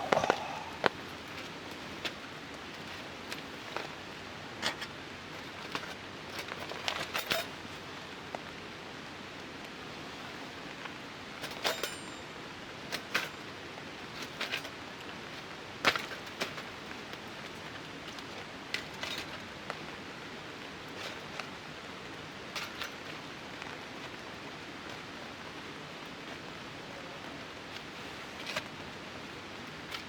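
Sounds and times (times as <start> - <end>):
rain hissing on a tarp: 0.0 - 30.0.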